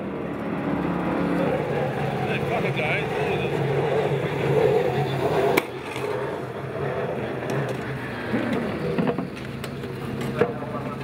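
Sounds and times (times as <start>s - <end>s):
race car engine humming: 0.0s - 11.0s.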